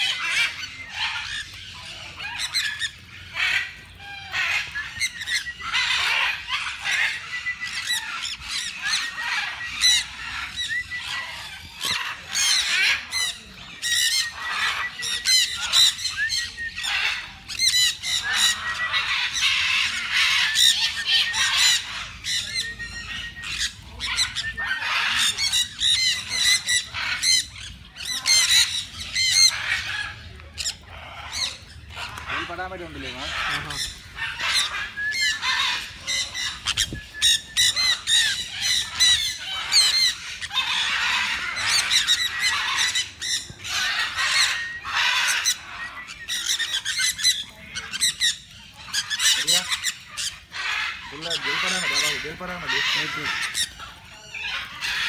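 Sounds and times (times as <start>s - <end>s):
flock of parrots calling: 0.0s - 55.0s.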